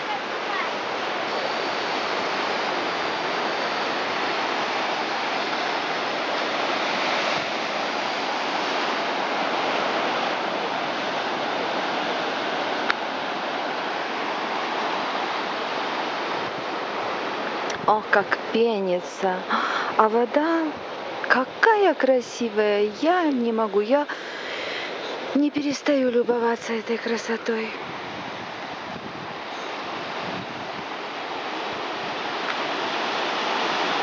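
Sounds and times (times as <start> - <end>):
surf breaking on rocks: 0.0 - 21.8, 23.0 - 34.0.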